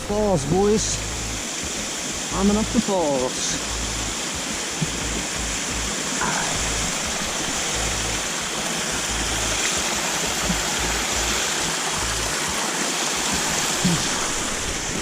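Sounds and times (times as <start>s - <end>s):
mountain creek rushing over rocks: 0.0s - 15.0s.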